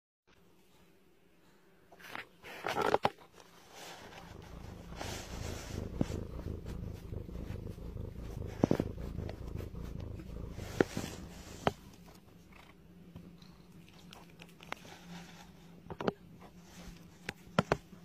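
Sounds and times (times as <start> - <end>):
cat purring: 2.7 - 18.0.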